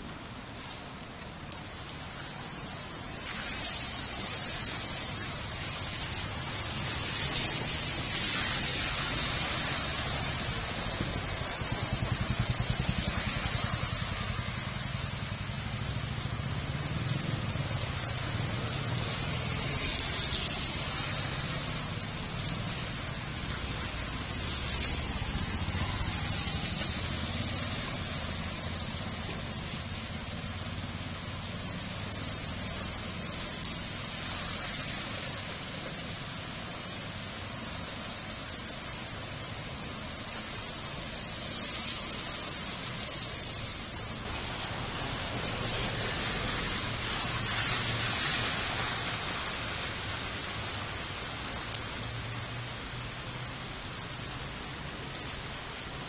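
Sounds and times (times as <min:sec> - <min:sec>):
hiss of rain and water: 0:00.0 - 0:56.0.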